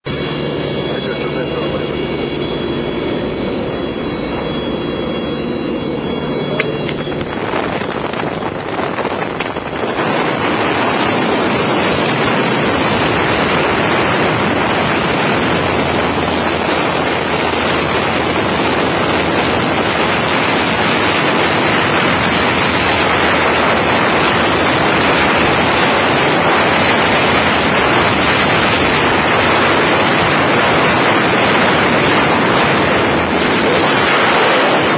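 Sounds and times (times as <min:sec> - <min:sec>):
freefall wind buffeting microphone: 0:00.0 - 0:34.9.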